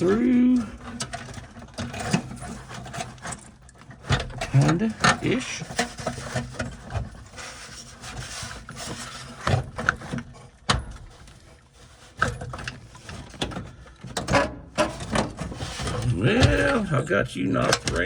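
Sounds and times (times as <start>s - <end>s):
knocks clicks and scraping: 0.0s - 18.0s.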